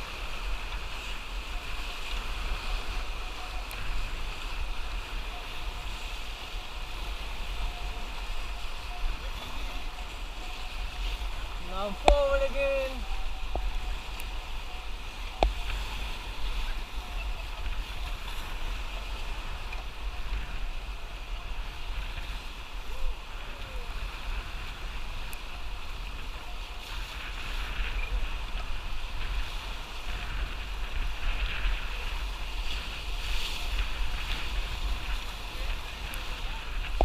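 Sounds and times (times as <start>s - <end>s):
rushing white-water rapids: 0.0s - 37.0s
wind buffeting microphone: 0.0s - 37.0s.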